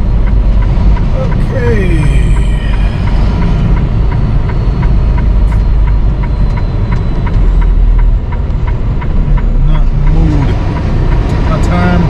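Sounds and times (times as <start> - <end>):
light ticking: 0.0 - 12.0
truck engine and road rumble: 0.0 - 12.0.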